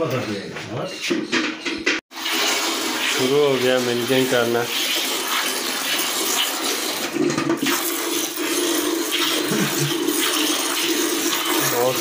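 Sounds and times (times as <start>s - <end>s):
milk squirting into a pail: 2.2s - 12.0s.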